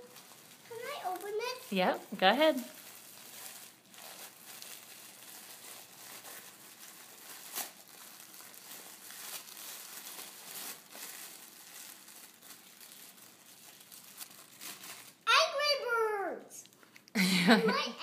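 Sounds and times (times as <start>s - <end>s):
wrapping paper crinkling and tearing: 0.0s - 15.8s.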